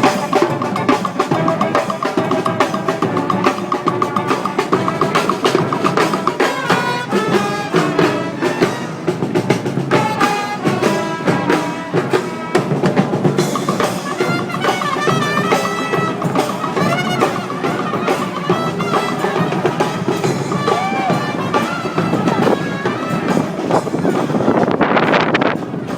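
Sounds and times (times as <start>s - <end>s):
brass band playing: 0.0s - 25.9s
drums: 0.0s - 25.9s
horns carrying a tune: 0.0s - 25.9s.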